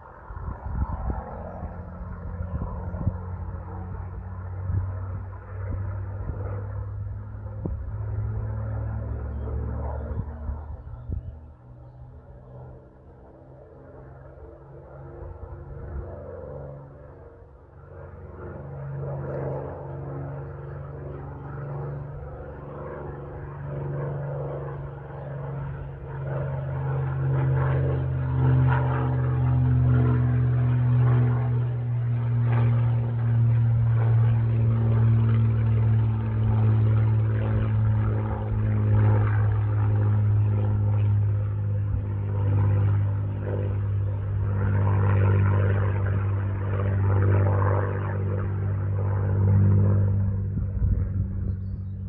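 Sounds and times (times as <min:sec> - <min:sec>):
propeller plane engine droning: 0:00.0 - 0:52.0.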